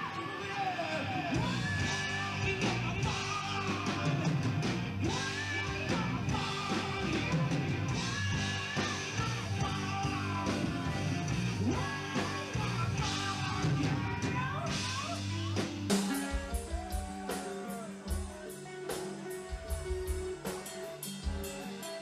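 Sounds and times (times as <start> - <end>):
person singing: 0.0 - 22.0
rock band playing live: 0.0 - 22.0.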